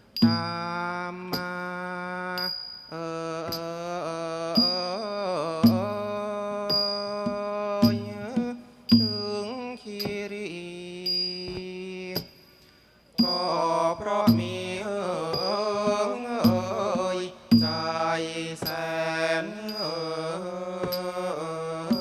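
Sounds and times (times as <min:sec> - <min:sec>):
small cymbal strokes: 0:00.0 - 0:22.0.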